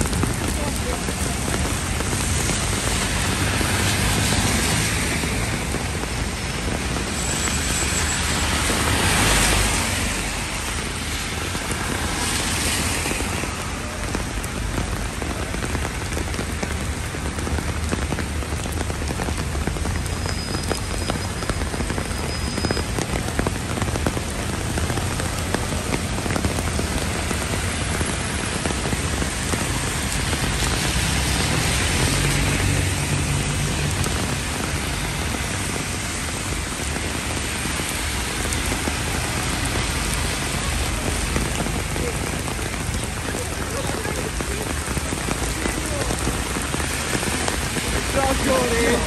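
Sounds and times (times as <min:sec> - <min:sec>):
heavy rain on pavement: 0:00.0 - 0:49.0
low rumble of city traffic: 0:00.0 - 0:49.0.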